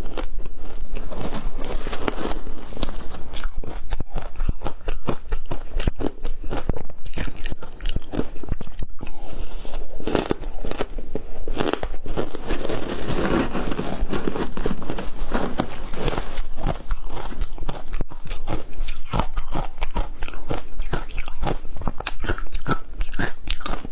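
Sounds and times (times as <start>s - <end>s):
ice being crunched and chewed: 0.0s - 23.9s.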